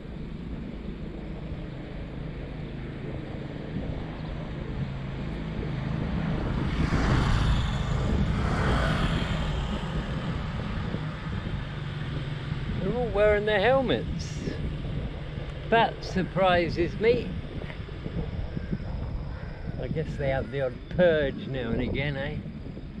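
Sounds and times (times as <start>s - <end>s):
wind and road noise: 0.0s - 23.0s
motorcycles passing: 2.0s - 22.2s.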